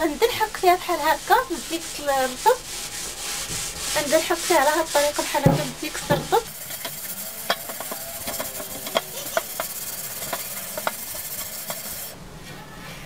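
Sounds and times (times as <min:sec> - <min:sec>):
scouring pad scrubbing metal pot: 0:00.0 - 0:12.2.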